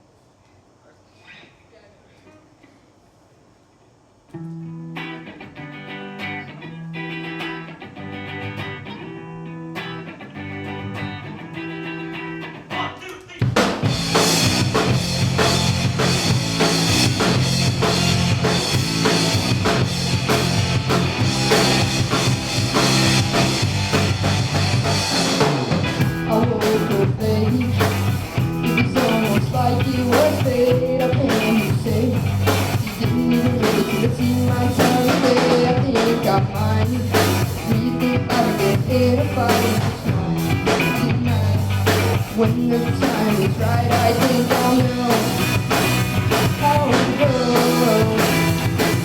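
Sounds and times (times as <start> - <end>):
guitar repeating figure: 4.7 - 49.0
live rock band playing: 4.7 - 49.0.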